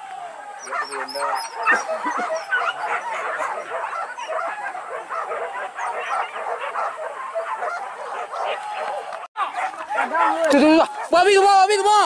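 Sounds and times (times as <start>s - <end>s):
hunting dogs baying and yelping: 0.3s - 11.8s.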